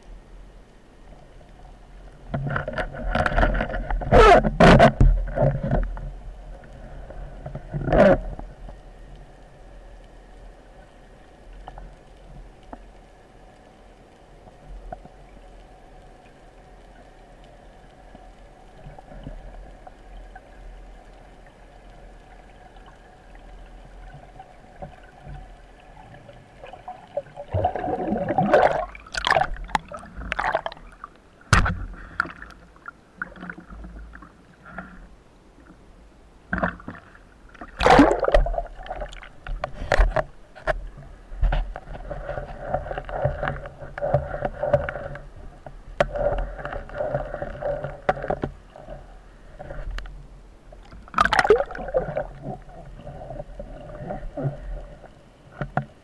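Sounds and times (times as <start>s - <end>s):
faint steady hum: 0.0s - 56.0s
water gurgling and sloshing: 0.0s - 56.0s.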